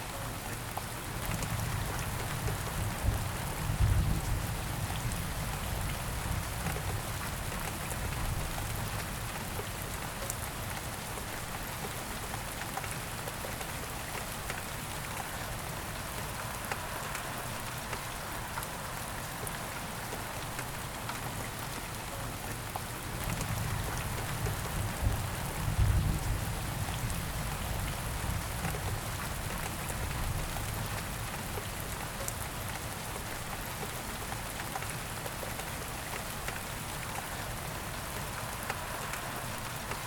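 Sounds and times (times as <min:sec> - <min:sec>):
rain falling on a surface: 0:00.0 - 0:40.0.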